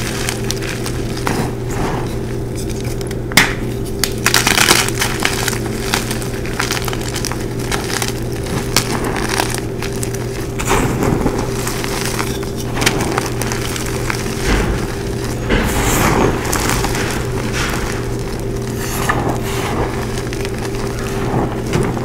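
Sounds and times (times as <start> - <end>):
chalk crunching by hand: 4.1 - 22.0.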